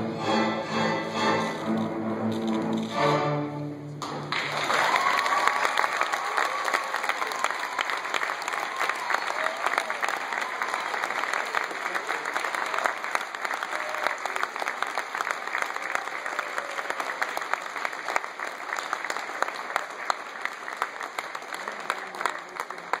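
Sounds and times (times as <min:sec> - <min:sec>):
audience applauding: 0:04.0 - 0:23.0.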